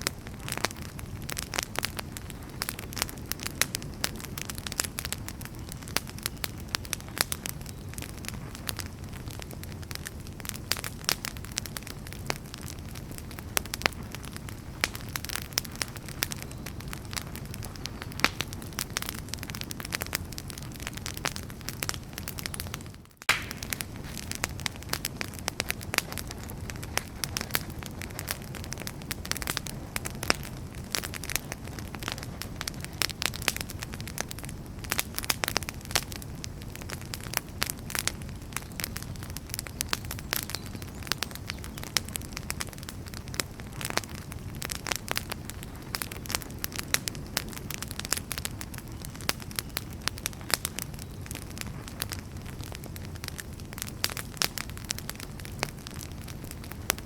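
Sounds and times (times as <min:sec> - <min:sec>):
fire rumbling: 0:00.0 - 0:57.0
firewood crackling and popping: 0:00.0 - 0:57.0.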